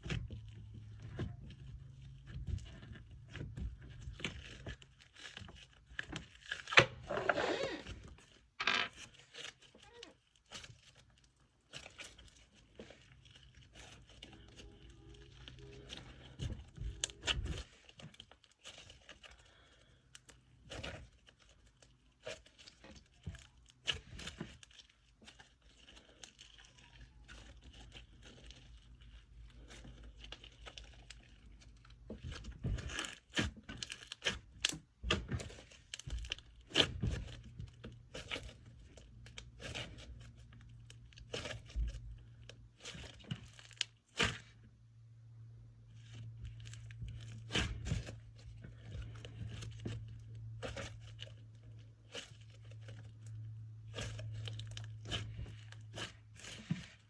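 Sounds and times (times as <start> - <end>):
slime squishing by hand: 0.0 - 57.0.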